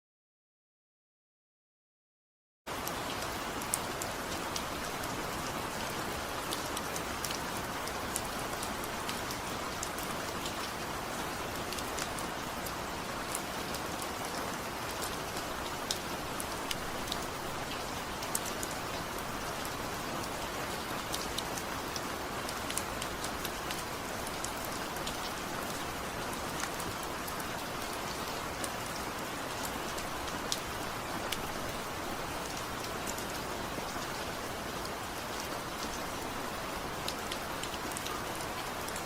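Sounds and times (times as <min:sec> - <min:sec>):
heavy rain falling: 0:02.7 - 0:39.0.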